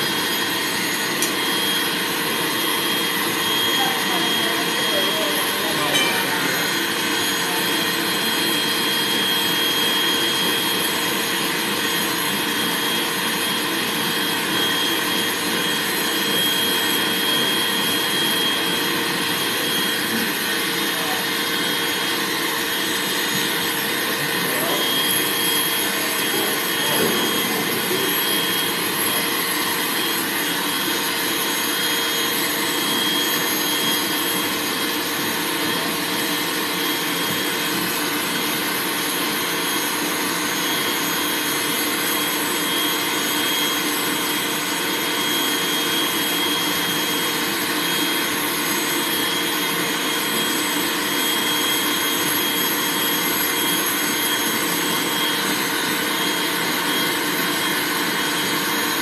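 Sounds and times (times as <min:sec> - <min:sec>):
pet dryer blowing air: 0:00.0 - 0:59.0.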